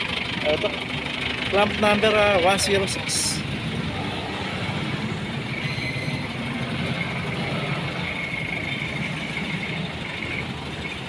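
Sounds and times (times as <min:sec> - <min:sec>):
street traffic noise: 0:00.0 - 0:11.0
vehicle engine idling: 0:00.0 - 0:11.0.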